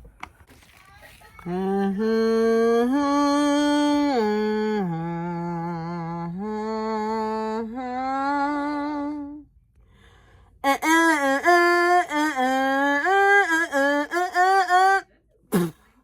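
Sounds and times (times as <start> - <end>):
person humming: 1.4 - 9.4, 10.6 - 15.8.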